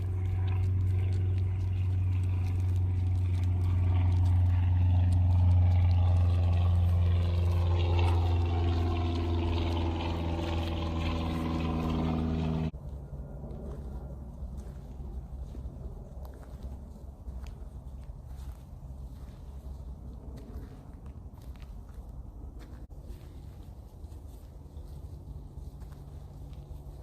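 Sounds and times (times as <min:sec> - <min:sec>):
engine running with low hum: 0:00.0 - 0:27.0.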